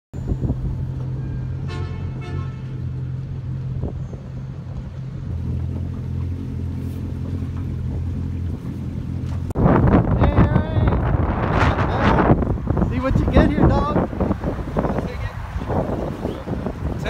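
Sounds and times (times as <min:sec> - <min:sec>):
outboard motor humming: 0:00.4 - 0:17.0.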